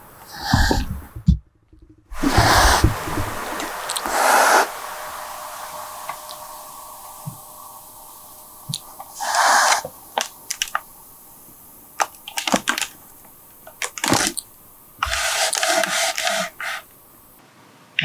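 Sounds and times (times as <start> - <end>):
kitten hissing: 0.3 - 1.0, 2.2 - 17.0.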